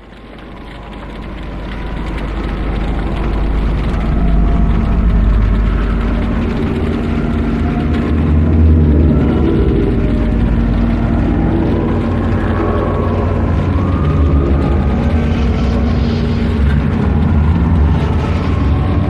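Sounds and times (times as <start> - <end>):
dark low rumble with drones: 0.0 - 19.0.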